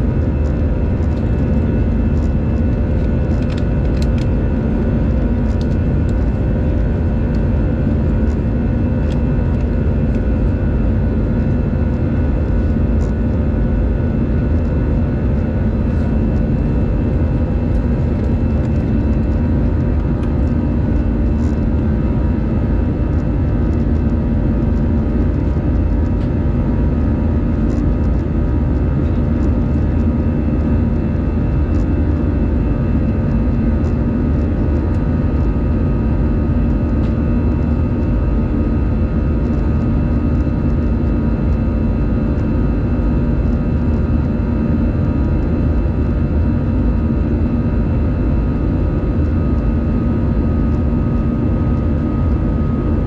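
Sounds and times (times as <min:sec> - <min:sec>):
constant multi-tone hum: 0:00.0 - 0:53.0.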